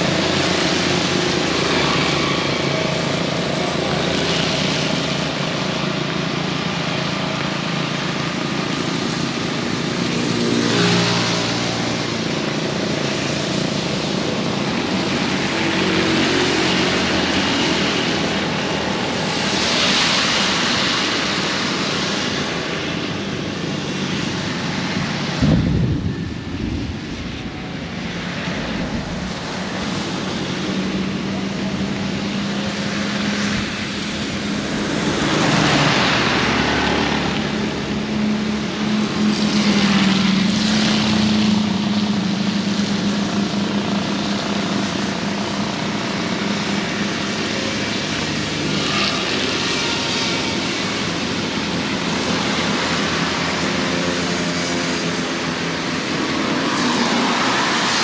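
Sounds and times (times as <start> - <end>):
heavy rain in strong wind: 0.0 - 58.0
passing vehicle engines: 0.0 - 58.0.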